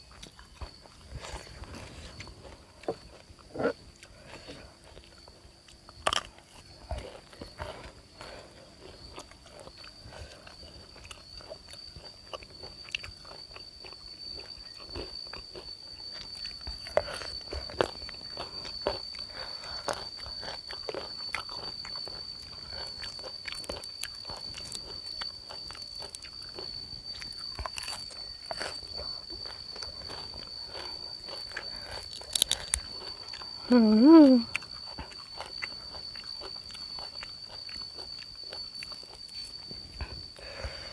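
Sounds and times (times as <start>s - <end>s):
crunching and chewing food: 0.0s - 40.9s
steady high-pitched whine: 0.0s - 40.9s.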